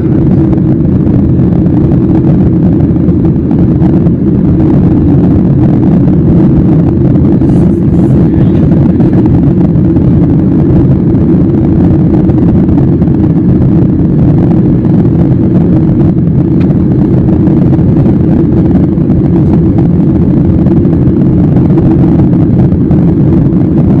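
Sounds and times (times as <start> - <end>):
jet airliner cabin drone: 0.0 - 24.0.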